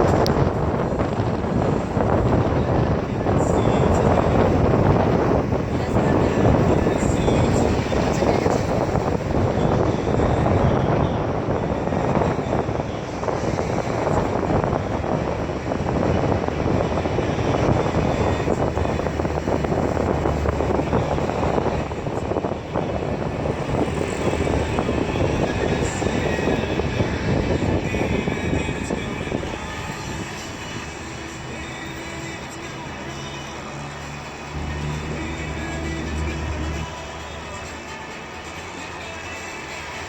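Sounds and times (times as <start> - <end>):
car driving rumble: 0.0 - 40.0
road and wind noise: 0.0 - 40.0.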